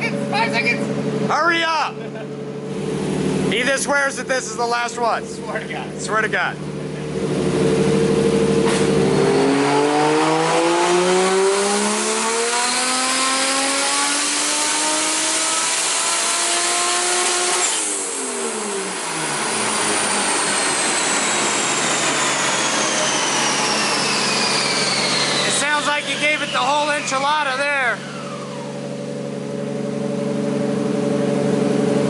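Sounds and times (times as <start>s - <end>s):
car engine revving: 0.0s - 32.0s
high whine dropping in pitch: 3.0s - 32.0s.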